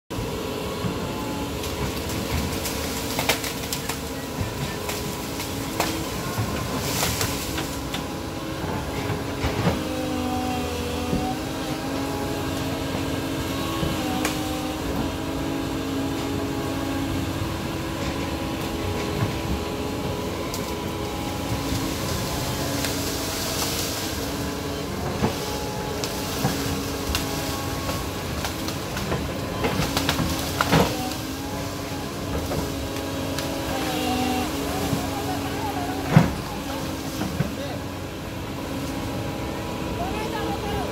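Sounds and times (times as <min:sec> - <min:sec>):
excavator diesel engine running: 0:00.1 - 0:40.9
hydraulic whine bending in pitch: 0:00.1 - 0:40.9.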